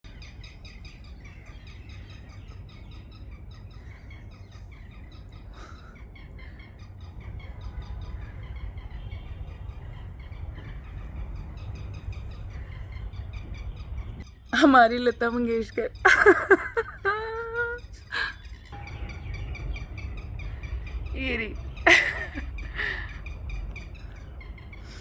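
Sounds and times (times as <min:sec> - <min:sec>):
small birds chirping: 0:00.0 - 0:25.0
steady low rumble: 0:00.0 - 0:25.0.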